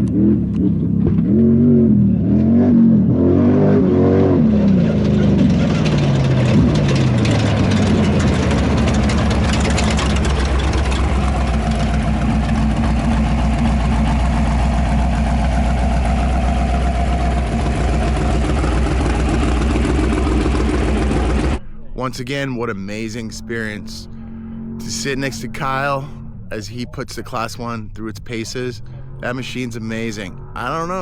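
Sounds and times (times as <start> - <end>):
race car engine idling: 4.4 - 31.0.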